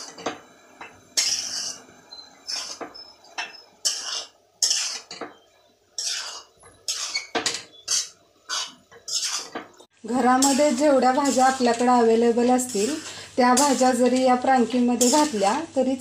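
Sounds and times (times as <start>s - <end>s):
metal spatula scraping a pot: 1.1s - 5.4s, 6.0s - 15.5s.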